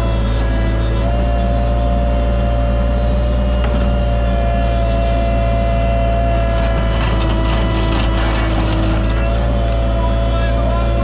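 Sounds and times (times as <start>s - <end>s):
hydraulic whine: 0.0s - 11.0s
mini excavator engine running: 0.0s - 11.0s.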